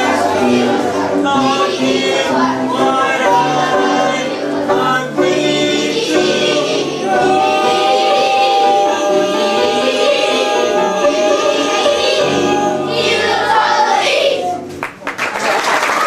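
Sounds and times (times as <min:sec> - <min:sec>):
voices singing together: 0:00.0 - 0:14.8.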